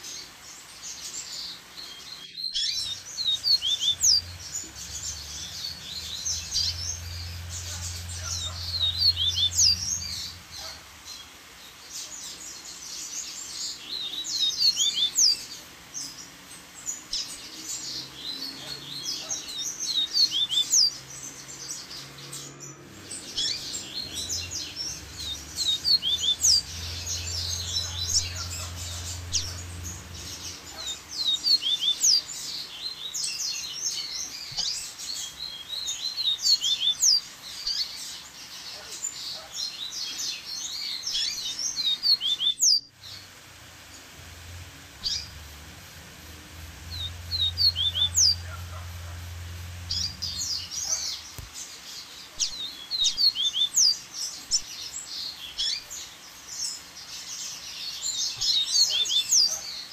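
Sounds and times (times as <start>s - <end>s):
birds chattering and singing: 0.0s - 59.9s.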